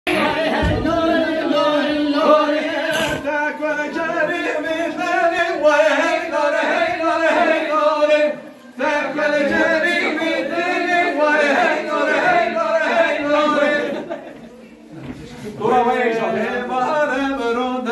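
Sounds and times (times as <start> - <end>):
men singing unaccompanied: 0.1 - 14.2, 15.6 - 17.9.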